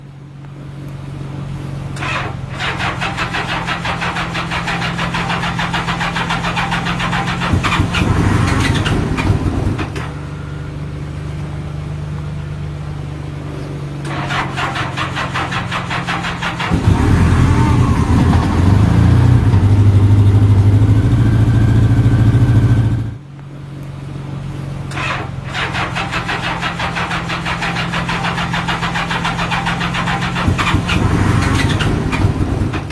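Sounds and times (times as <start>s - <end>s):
motorcycle starter cranking: 1.9s - 11.6s, 13.6s - 23.2s, 24.9s - 32.9s
motorcycle engine running unevenly: 2.1s - 23.4s, 25.4s - 32.9s.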